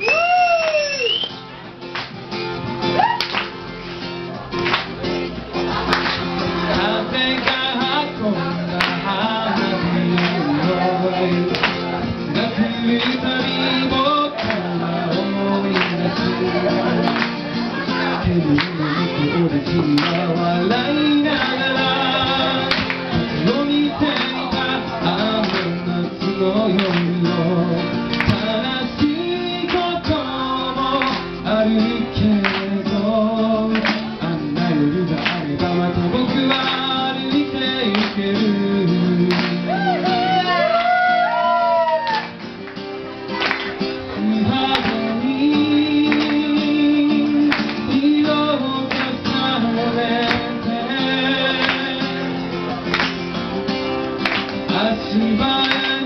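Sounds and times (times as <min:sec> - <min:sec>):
strummed acoustic guitar: 0:00.0 - 0:56.0
man singing: 0:06.4 - 0:41.9, 0:44.0 - 0:52.9, 0:54.6 - 0:56.0.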